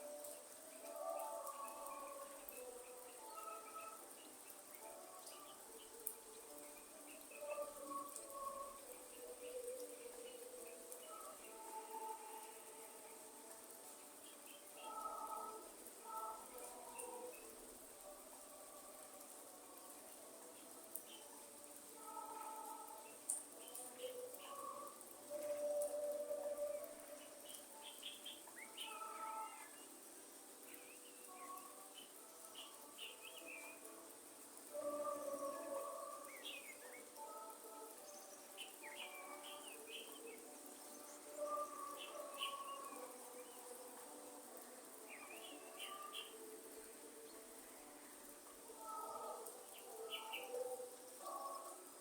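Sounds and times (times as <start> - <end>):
faint birdsong: 0.0 - 52.0
insect hum and drone: 0.0 - 52.0
soft steady hiss: 0.0 - 52.0.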